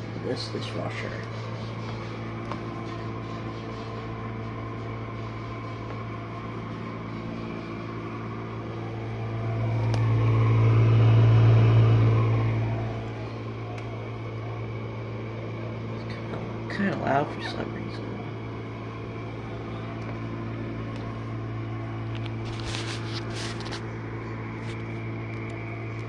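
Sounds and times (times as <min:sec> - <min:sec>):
dishwasher motor hum: 0:00.0 - 0:26.0.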